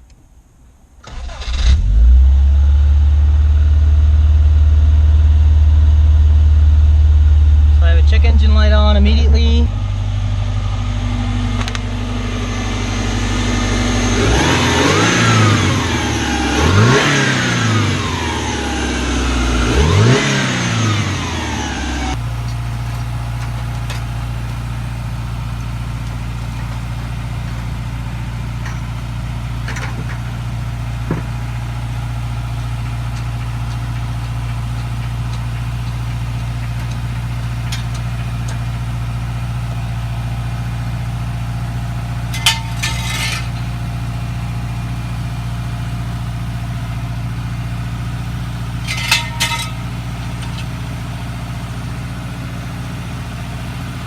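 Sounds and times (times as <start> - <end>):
car engine revving and idling: 1.3 - 54.0.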